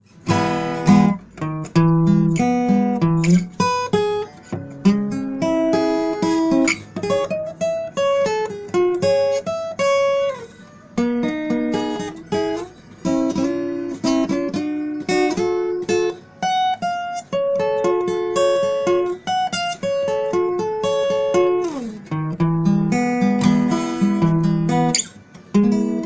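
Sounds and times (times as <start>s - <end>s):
instrumental melody with chords: 0.0s - 26.0s.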